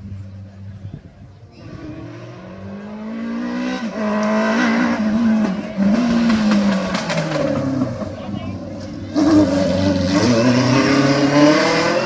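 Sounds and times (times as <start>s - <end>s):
rally car accelerating: 1.5s - 12.0s.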